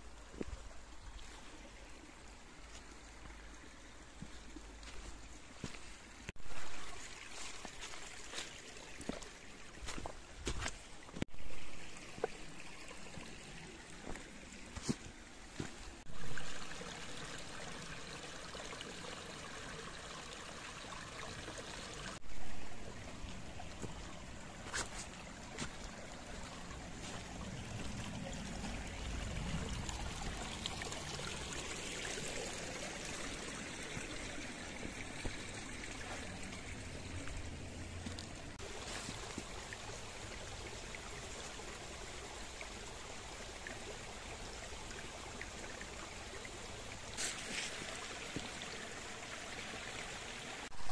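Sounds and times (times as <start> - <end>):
stream flowing over rocks: 0.0 - 50.9.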